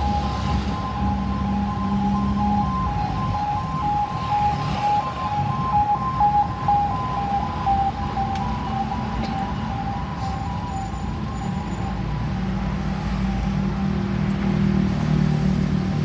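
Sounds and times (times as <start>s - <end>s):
road traffic rumble: 0.0s - 16.0s
two-tone ambulance siren: 0.0s - 16.0s.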